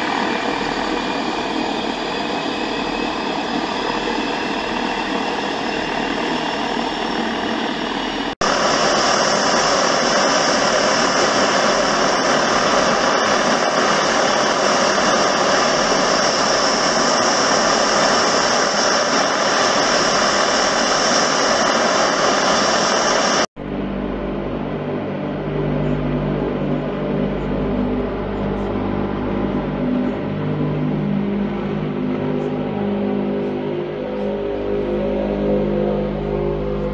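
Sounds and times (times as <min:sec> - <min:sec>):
turboprop engines whining: 0:00.0 - 0:36.9.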